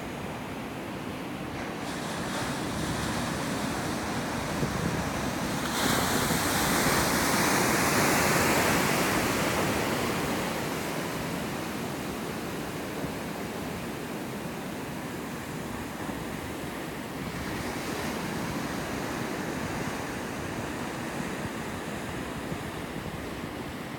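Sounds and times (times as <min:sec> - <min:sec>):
surf churning white water: 0:00.0 - 0:23.9.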